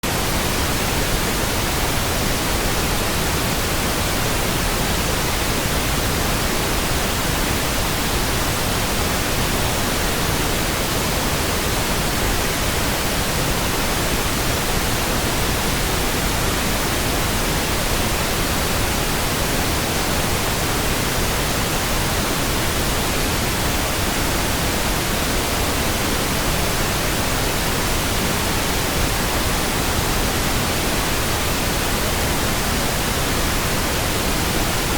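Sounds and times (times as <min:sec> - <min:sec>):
pink noise hiss: 0:00.0 - 0:34.9.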